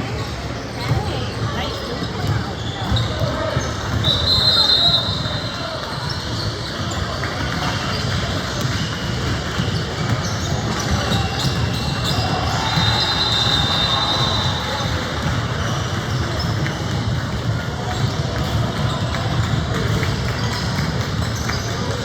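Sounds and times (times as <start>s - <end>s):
basketball bouncing on court: 0.0s - 22.0s
crowd chatter: 0.0s - 22.0s.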